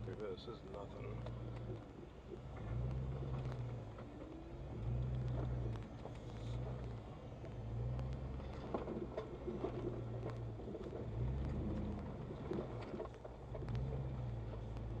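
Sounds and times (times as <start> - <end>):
off-road vehicle engine: 0.0 - 15.0
tires clicking on rock and gravel: 0.0 - 15.0.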